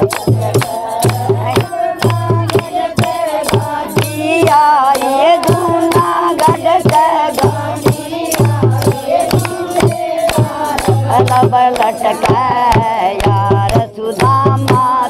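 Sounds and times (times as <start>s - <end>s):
hands clapping: 0.0s - 15.0s.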